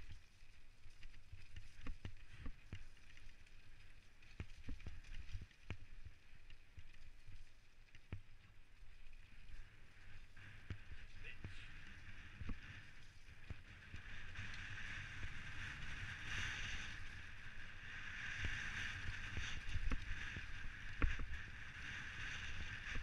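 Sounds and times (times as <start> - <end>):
bike knocking and rattling: 0.0 - 17.0, 18.3 - 23.0
bike tyres on dirt trail: 0.0 - 23.0
wind rumble on microphone: 0.0 - 23.0.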